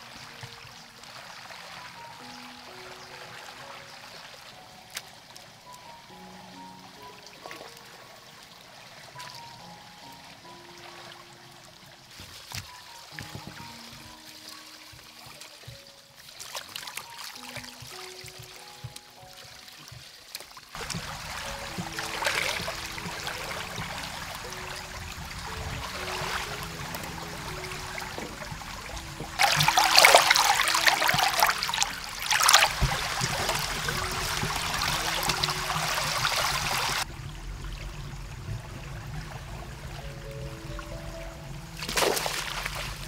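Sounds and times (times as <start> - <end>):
water splashing and sloshing: 0.0 - 43.0.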